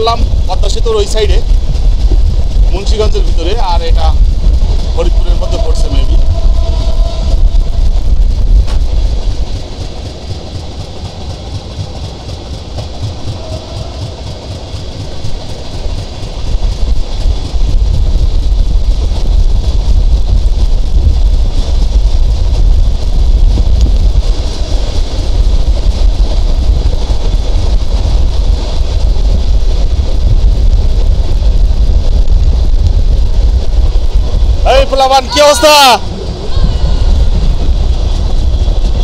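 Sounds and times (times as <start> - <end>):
passenger train rumbling past: 0.0 - 39.0.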